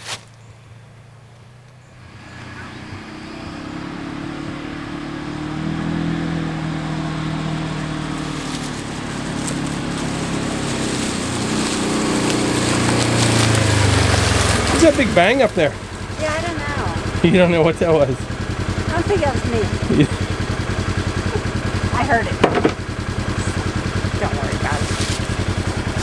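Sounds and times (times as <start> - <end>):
vehicle engine approaching: 0.0 - 26.0.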